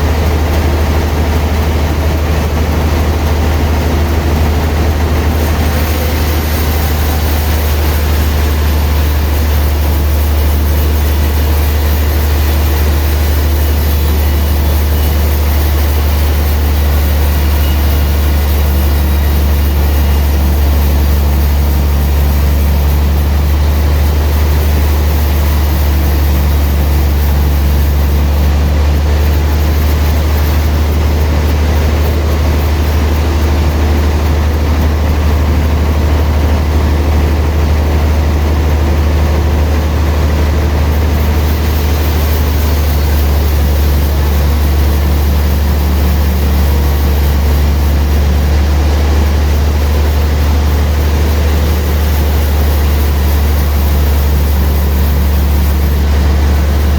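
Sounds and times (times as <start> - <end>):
sawmill machinery hum: 0.0 - 56.9.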